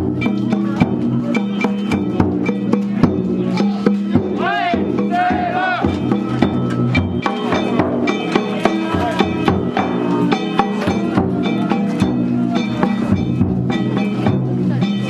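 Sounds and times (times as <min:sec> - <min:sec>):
percussion music with metallic tones: 0:00.0 - 0:15.0.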